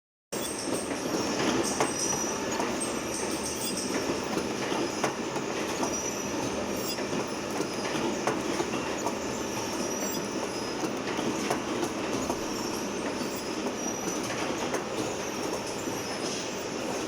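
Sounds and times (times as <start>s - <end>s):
machine clatter: 0.4s - 17.0s.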